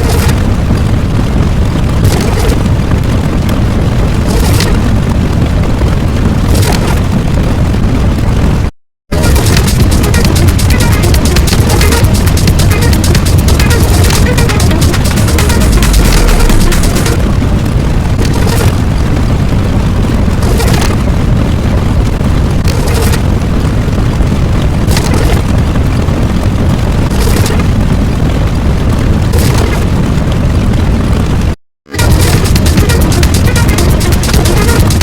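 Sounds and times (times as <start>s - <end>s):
explosion rumble and blasts: 0.0s - 35.0s.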